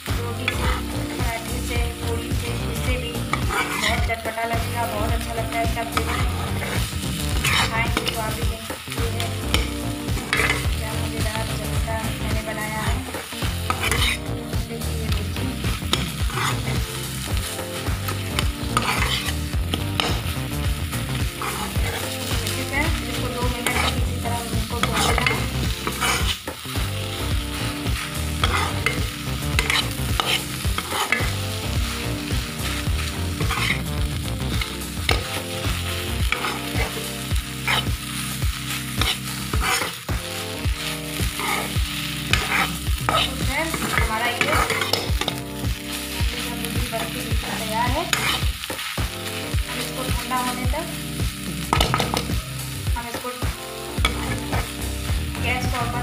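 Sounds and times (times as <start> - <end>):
food sizzling in a pan: 0.0 - 56.0
steel spoon scraping a pan: 0.4 - 4.2, 4.8 - 8.4, 9.2 - 10.8, 12.2 - 20.3, 21.0 - 46.8, 47.4 - 48.8, 54.0 - 54.9.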